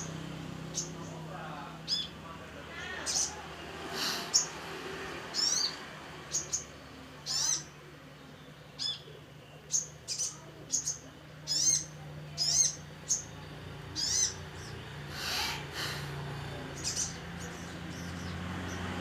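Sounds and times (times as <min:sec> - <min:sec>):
bird chirping and trilling: 0:00.0 - 0:16.0, 0:16.7 - 0:19.0.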